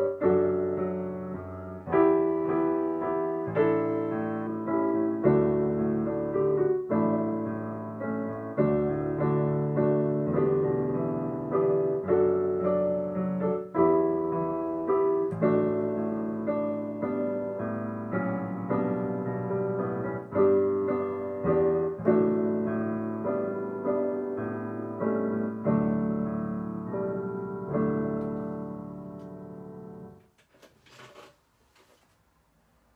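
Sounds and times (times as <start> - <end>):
digital piano playing chords: 0.0 - 30.3.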